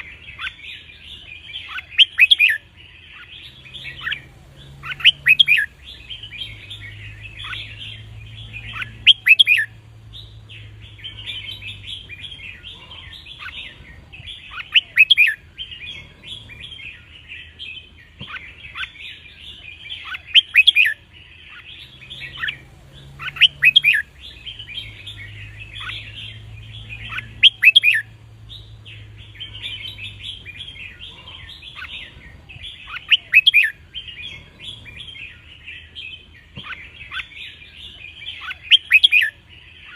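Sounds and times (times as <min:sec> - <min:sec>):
sharp whistled bird phrases: 0:00.0 - 0:17.2, 0:18.2 - 0:39.9
bulbul chattering song: 0:00.0 - 0:39.9.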